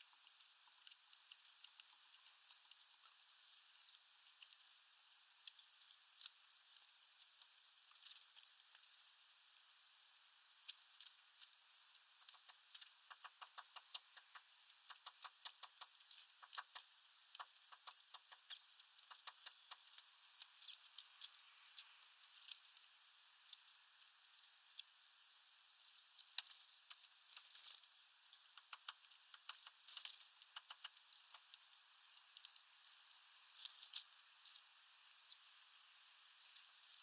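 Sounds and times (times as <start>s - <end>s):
birds pecking at feeder: 0.0s - 9.7s, 10.6s - 25.0s, 25.9s - 37.0s.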